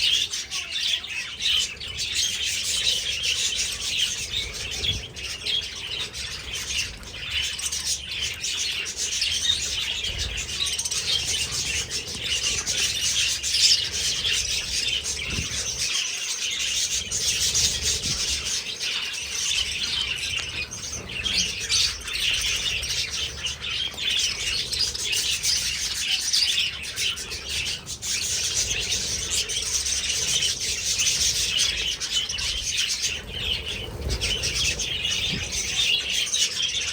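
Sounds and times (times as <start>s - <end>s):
budgerigars chirping and chattering: 0.0s - 36.9s.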